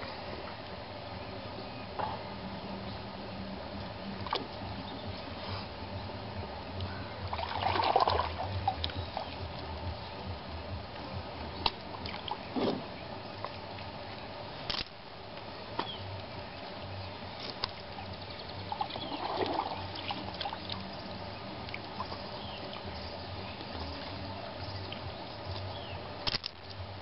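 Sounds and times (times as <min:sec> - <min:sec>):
water splashing and dribbling: 0:03.1 - 0:27.0.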